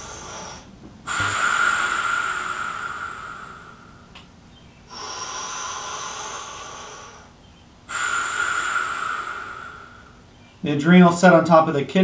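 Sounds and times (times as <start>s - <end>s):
man breathing deeply: 0.0s - 4.2s, 4.8s - 10.6s.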